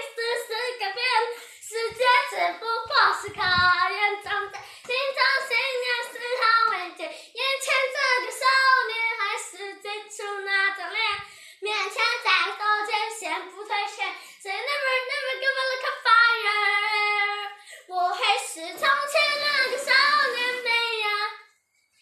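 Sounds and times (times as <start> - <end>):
high child-like singing in pop song: 0.0 - 21.6.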